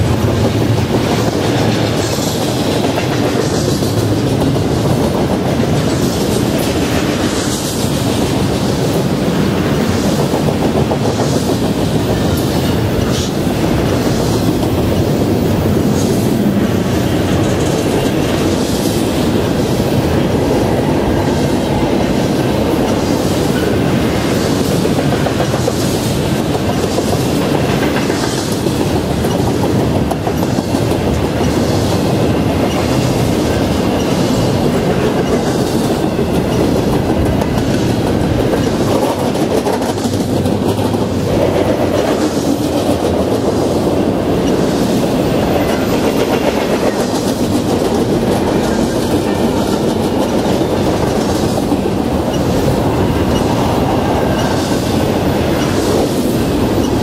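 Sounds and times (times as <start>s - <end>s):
freight train rolling past: 0.0s - 57.0s
wheels clacking over rail joints: 0.0s - 57.0s.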